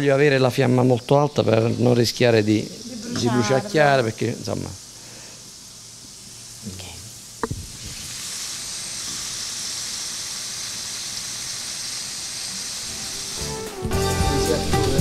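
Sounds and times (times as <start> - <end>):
meat sizzling in a frying pan: 1.5 - 15.0.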